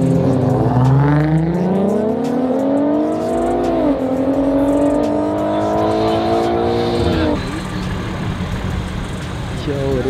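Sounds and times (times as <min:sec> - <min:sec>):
cars accelerating hard: 0:00.0 - 0:10.0.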